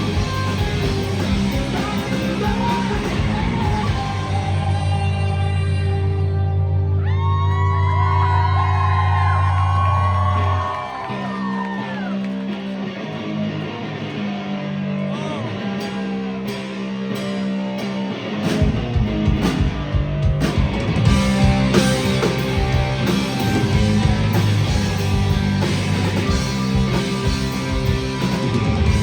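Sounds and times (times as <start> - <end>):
live rock band playing: 0.0 - 6.9, 10.5 - 29.0
electric guitar lead: 0.0 - 8.4, 10.3 - 29.0.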